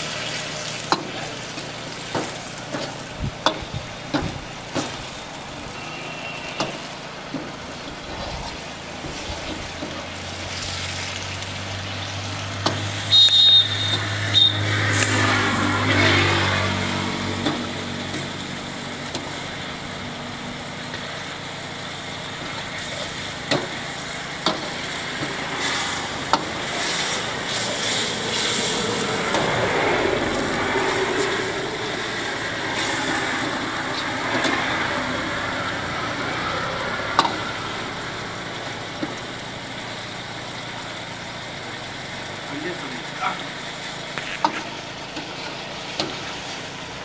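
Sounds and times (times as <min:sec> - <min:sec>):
curry sizzling in a wok: 0:00.0 - 0:47.0.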